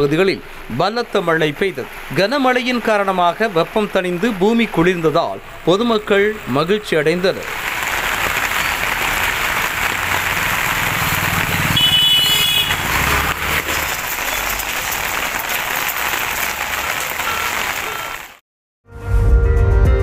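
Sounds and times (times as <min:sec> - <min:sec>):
heavy rain pouring: 0:00.0 - 0:18.4
vehicle driving on wet road: 0:00.0 - 0:18.4.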